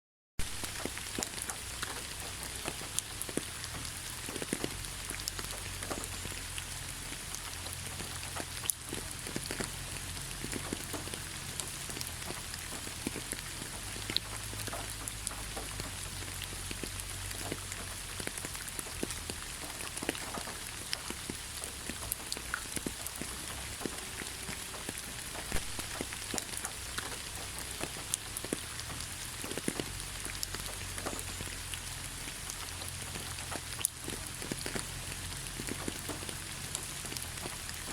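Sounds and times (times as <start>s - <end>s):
rain hissing: 0.4s - 37.9s
raindrops ticking close by: 0.4s - 37.9s.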